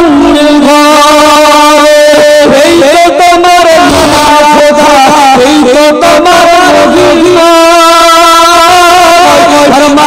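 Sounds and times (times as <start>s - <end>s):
man singing religious song: 0.0s - 10.0s.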